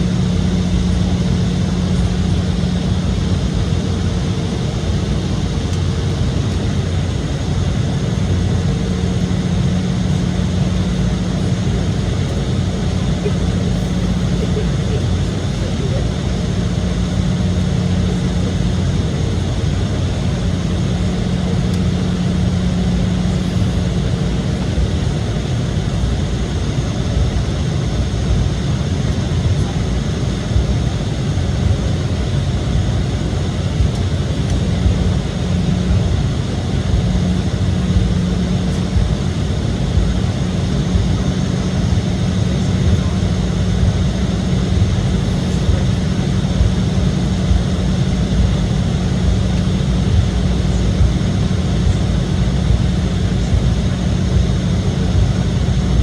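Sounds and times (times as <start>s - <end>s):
jet airliner cabin noise: 0.0s - 56.0s
low hum: 0.0s - 56.0s.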